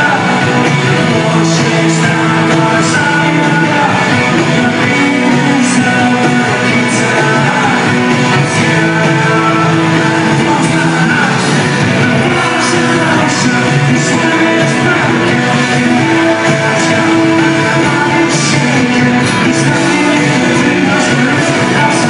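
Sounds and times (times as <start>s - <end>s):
drums: 0.0s - 22.0s
electric guitars: 0.0s - 22.0s
person singing: 0.0s - 22.0s.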